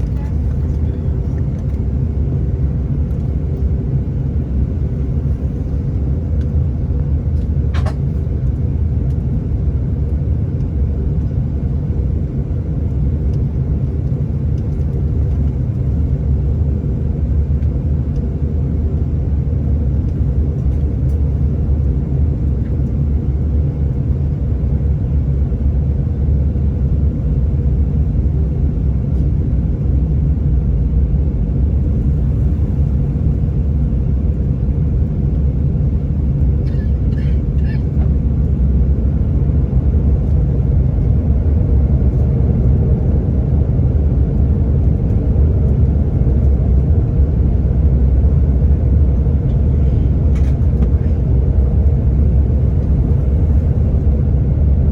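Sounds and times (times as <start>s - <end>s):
airliner cabin engine rumble: 0.0s - 54.9s
constant hum: 0.0s - 54.9s.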